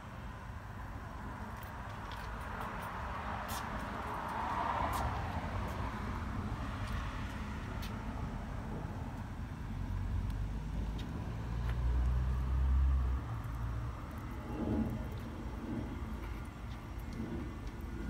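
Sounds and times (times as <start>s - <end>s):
vehicle engine rumble passing: 0.8s - 18.0s.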